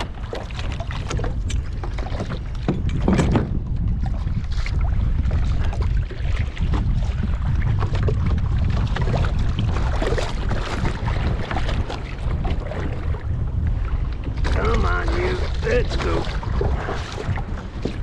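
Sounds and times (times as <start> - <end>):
paddle splashes and drips: 0.0 - 18.0
wind buffeting microphone: 0.0 - 18.0.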